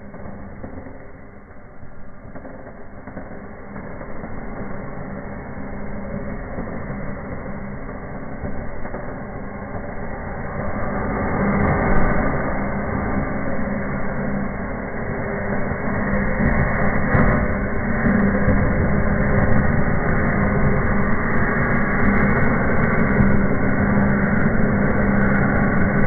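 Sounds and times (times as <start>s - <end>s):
firework fountain buzzing hiss: 0.0s - 26.0s.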